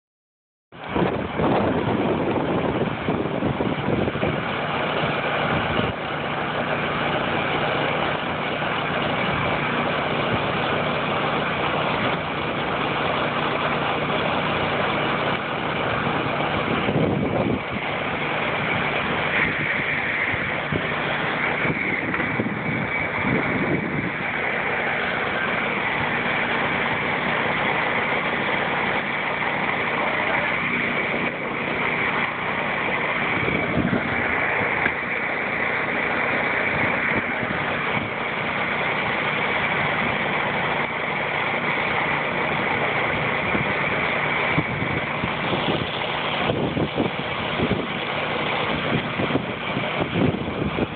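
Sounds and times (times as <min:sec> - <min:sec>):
truck engine idling: 0:00.8 - 0:50.9.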